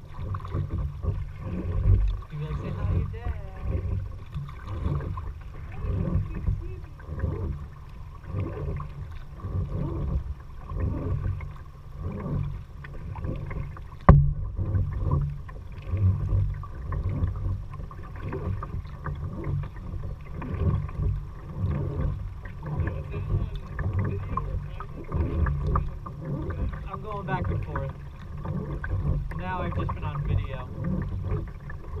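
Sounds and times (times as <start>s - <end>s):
paddle strokes splashing: 0.0s - 32.0s
water sloshing: 0.0s - 32.0s.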